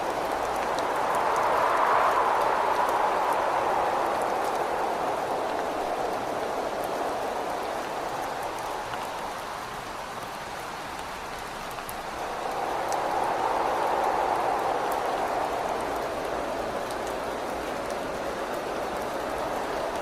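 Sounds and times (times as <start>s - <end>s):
gusting wind: 0.0s - 20.0s
steady rain: 0.0s - 20.0s.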